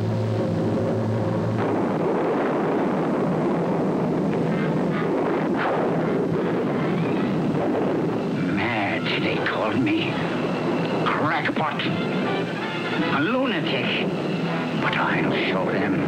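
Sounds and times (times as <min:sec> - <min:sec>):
thunder rumbling: 0:00.0 - 0:16.0
thunder cracks: 0:00.5 - 0:16.0.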